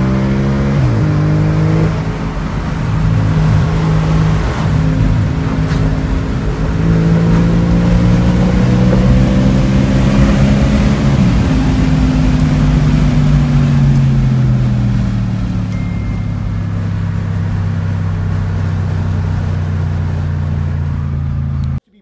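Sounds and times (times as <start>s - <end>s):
car engine accelerating: 0.0s - 21.8s
road and wind noise: 0.0s - 21.8s.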